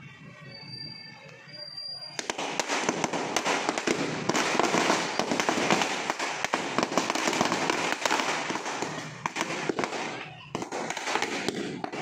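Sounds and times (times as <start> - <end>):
firecrackers popping and crackling: 1.8 - 12.0.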